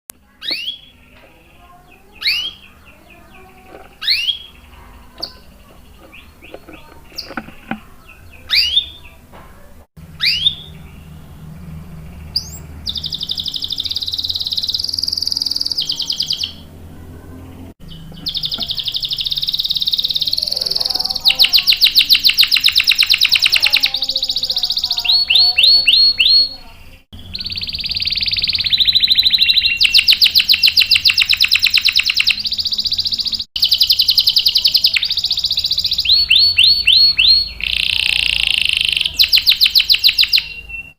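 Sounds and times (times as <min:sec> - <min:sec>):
canary song with trill: 0:00.1 - 0:40.9
canary call notes: 0:00.3 - 0:09.3, 0:10.0 - 0:11.1, 0:12.2 - 0:16.7, 0:17.8 - 0:40.9.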